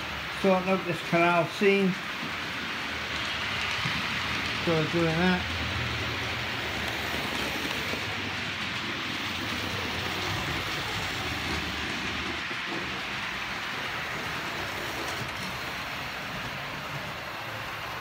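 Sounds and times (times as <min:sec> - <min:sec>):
model train wheels on rails: 0:00.0 - 0:18.0.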